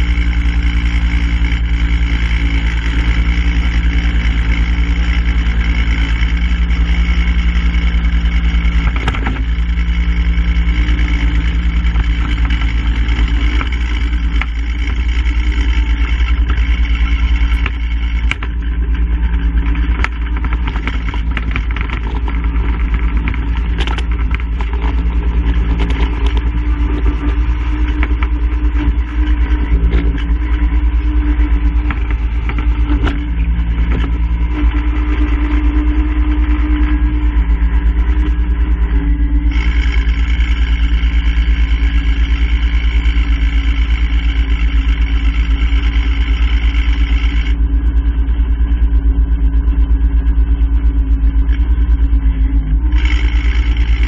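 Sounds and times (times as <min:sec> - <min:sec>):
engine running: 0:00.0 - 0:54.0
high whining sound: 0:00.0 - 0:54.0.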